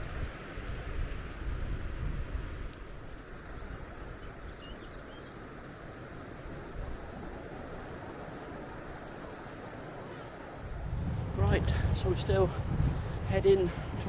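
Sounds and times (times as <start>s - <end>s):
steady outdoor rush: 0.0s - 14.0s
wind buffeting microphone: 0.0s - 14.0s.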